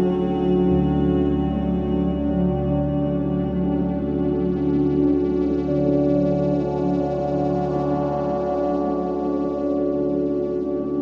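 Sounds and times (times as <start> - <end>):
ambient music with sustained tones: 0.0 - 11.0.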